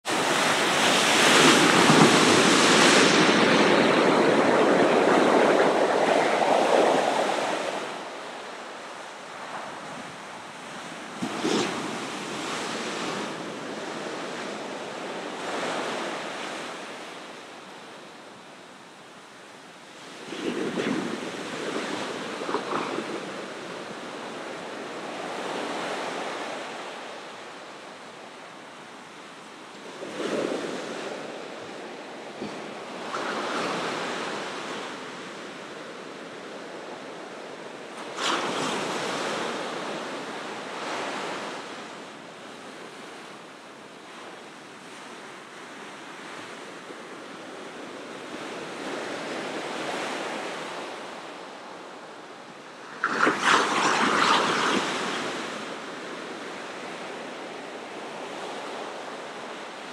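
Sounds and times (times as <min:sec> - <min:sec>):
waves breaking and washing ashore: 0:00.0 - 0:59.9.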